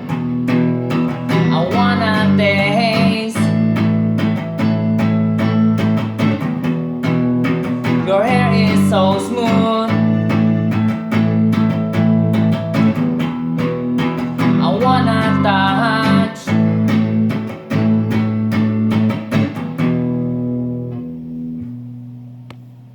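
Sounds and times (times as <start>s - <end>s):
plucked guitar music: 0.0s - 22.9s.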